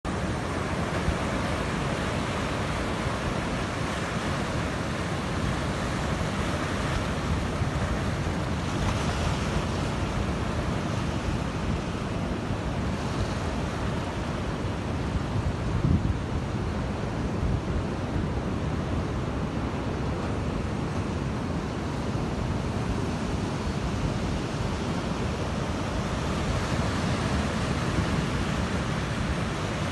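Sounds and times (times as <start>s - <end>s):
sea waves breaking on beach: 0.1s - 29.9s
wind on microphone: 0.1s - 29.9s.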